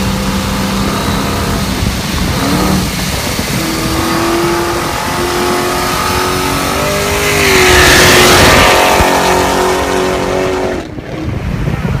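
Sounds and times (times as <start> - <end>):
car engine revving high: 0.0 - 11.4
loud rushing noise: 0.0 - 12.0.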